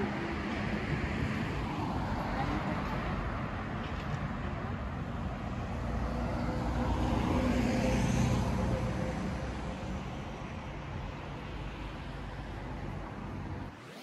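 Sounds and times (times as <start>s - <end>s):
steady traffic noise: 0.0s - 14.0s.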